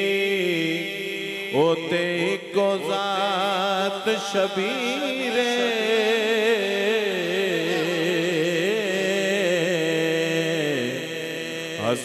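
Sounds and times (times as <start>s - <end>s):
man singing into microphone: 0.0s - 12.0s.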